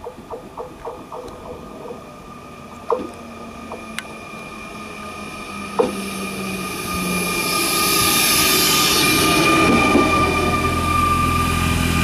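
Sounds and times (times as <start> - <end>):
electric train running hum: 0.0 - 12.0.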